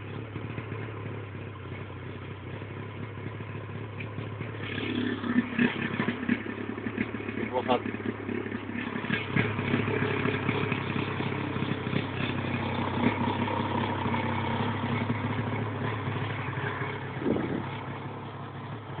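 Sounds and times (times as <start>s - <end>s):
snowmobile engine idling: 0.0s - 19.0s.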